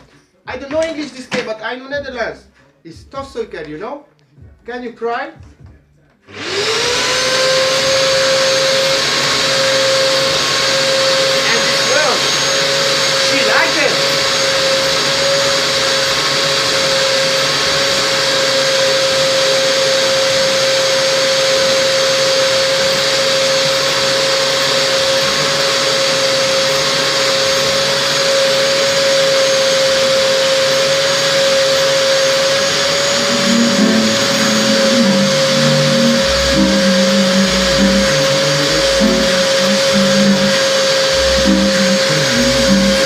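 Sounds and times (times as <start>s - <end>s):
vacuum cleaner running: 6.2s - 43.0s.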